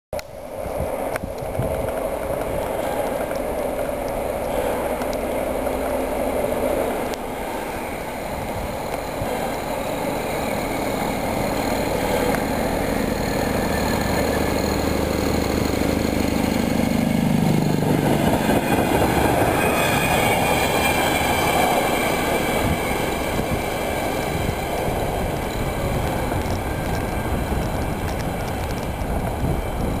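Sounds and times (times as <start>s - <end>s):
train wagons rolling past: 0.4s - 30.0s
locomotive diesel engine running: 1.6s - 30.0s.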